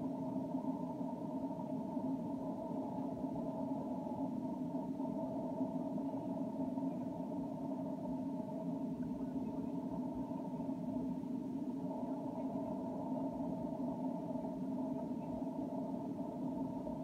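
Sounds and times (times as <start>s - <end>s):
steady muffled hum: 0.0s - 17.0s.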